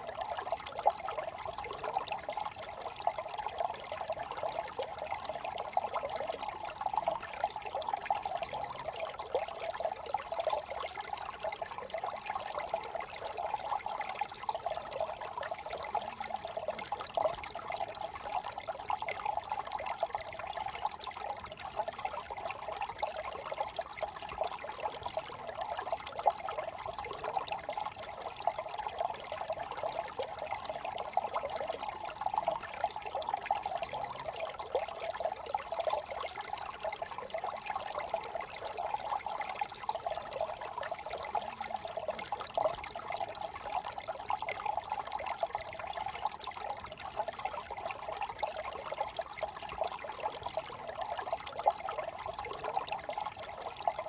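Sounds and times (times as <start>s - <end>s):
brook trickling over stones: 0.0s - 54.0s.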